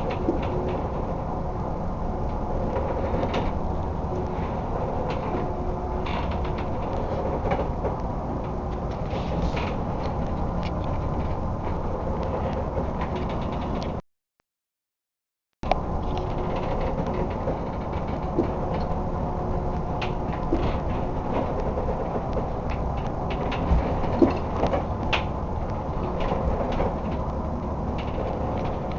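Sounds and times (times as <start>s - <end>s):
boat engine rumble: 0.0s - 14.0s, 15.6s - 28.9s
creaks and rattling clicks: 0.0s - 14.0s, 15.6s - 28.9s.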